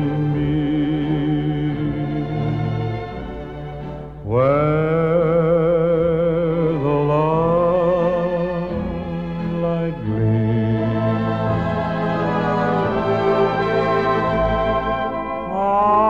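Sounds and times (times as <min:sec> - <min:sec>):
slow melody with vibrato: 0:00.0 - 0:16.0
sustained lower accompaniment: 0:00.0 - 0:16.0.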